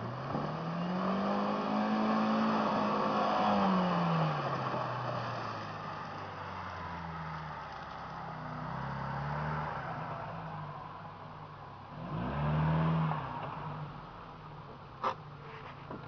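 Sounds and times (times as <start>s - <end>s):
off-road vehicle engine revving: 0.0s - 10.8s, 11.9s - 14.2s.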